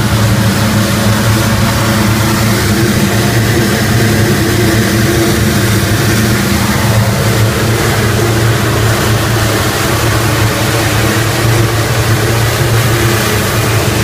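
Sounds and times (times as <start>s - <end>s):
radial aircraft engine running: 0.0s - 14.0s.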